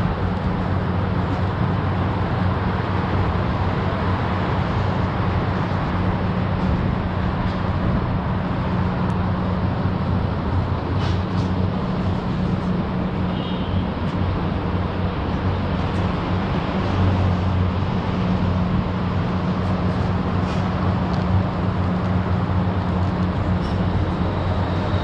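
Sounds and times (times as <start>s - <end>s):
constant low hum: 0.0s - 25.0s
traffic noise: 0.0s - 25.0s.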